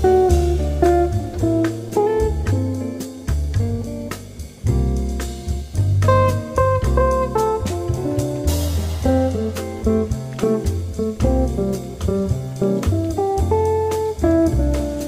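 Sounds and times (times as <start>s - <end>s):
jazzy guitar music with drums: 0.0s - 15.0s.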